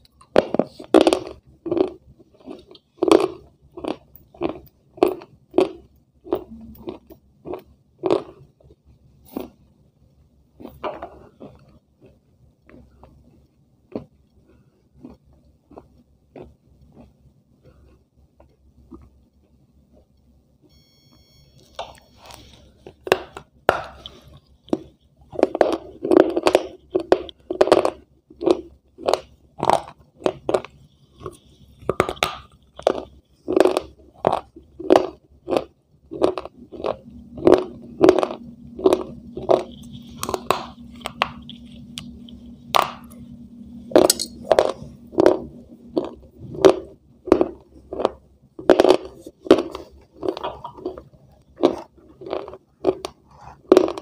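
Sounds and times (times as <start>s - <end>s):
person chewing crunchy food: 0.0s - 9.7s, 10.5s - 20.2s, 21.6s - 54.0s.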